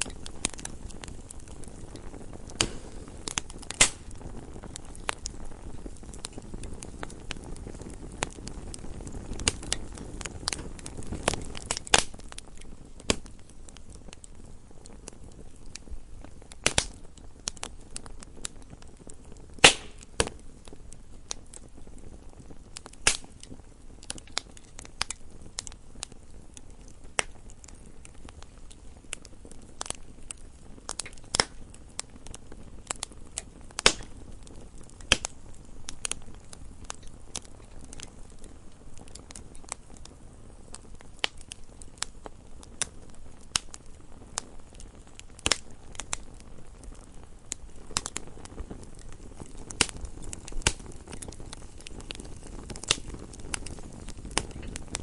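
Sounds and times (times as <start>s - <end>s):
flame hiss: 0.0s - 55.0s
wood fire crackling and popping: 0.0s - 55.0s.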